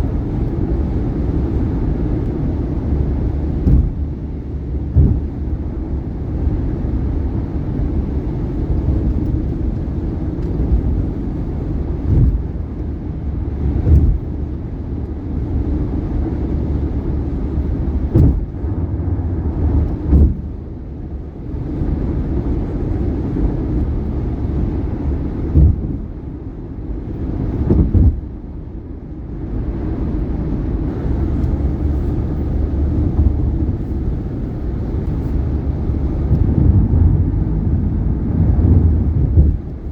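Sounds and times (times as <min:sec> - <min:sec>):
tyre and road noise: 0:00.0 - 0:28.4, 0:29.5 - 0:39.9.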